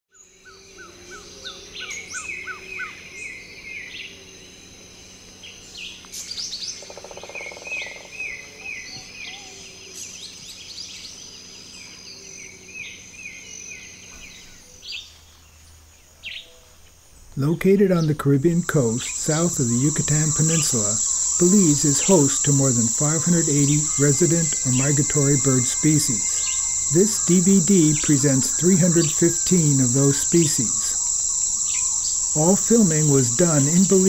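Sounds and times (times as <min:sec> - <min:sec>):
tropical birds chirping: 0:00.1 - 0:34.0.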